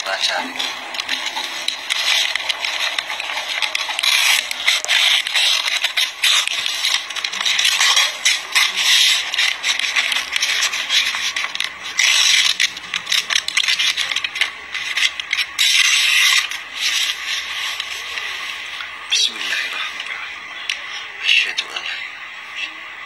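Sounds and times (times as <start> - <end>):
scraping and rubbing noise: 0.0 - 23.0.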